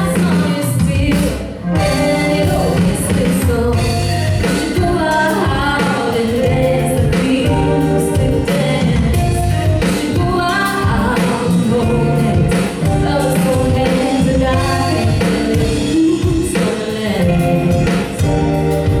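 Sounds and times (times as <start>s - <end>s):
person singing: 0.0s - 18.2s
live band playing: 0.0s - 19.0s.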